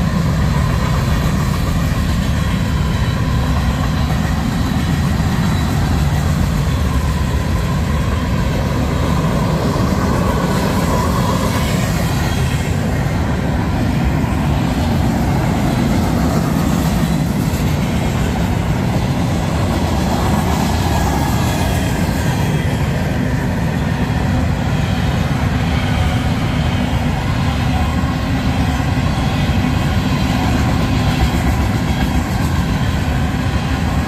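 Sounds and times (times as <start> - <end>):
freight cars rumbling and rattling: 0.0 - 34.0.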